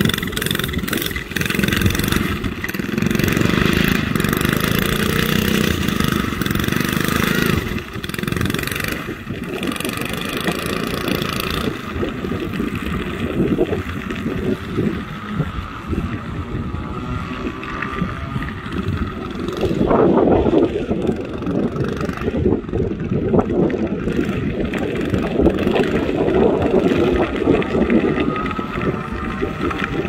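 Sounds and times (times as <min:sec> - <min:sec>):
small gas engine running: 0:00.0 - 0:30.0
wind noise on microphone: 0:00.0 - 0:30.0.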